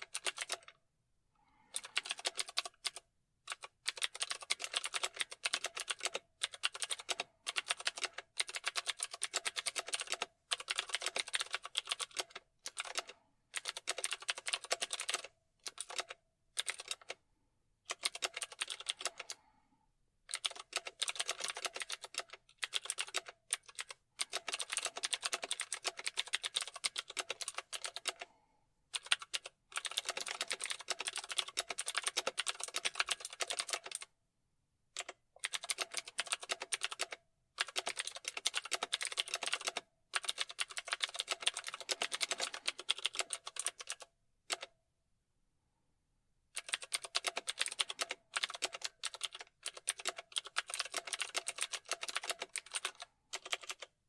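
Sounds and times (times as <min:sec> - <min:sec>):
typing on keyboard: 0:00.0 - 0:00.8, 0:01.6 - 0:17.2, 0:17.9 - 0:19.4, 0:20.3 - 0:28.3, 0:28.9 - 0:34.1, 0:35.0 - 0:44.8, 0:46.6 - 0:54.0.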